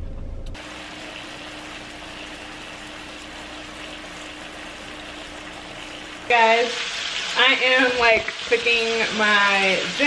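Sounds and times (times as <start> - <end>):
chicken sizzling in hot oil: 0.6 - 10.0.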